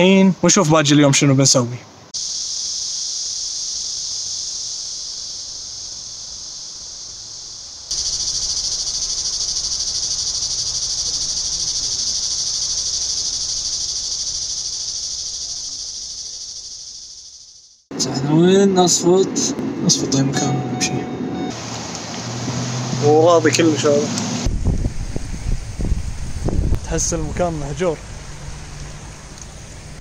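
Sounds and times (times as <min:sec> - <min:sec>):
insects buzzing: 0:02.1 - 0:20.2, 0:21.4 - 0:30.0.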